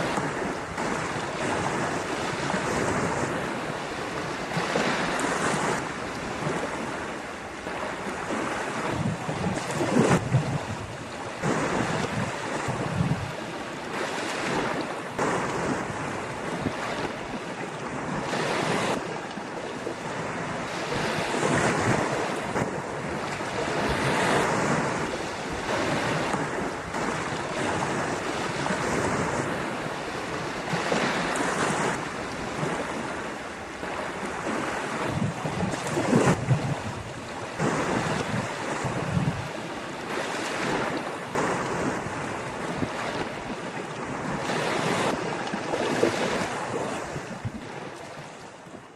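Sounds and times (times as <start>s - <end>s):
waves breaking on a beach: 0.0s - 48.9s
wind buffeting microphone: 0.0s - 48.9s.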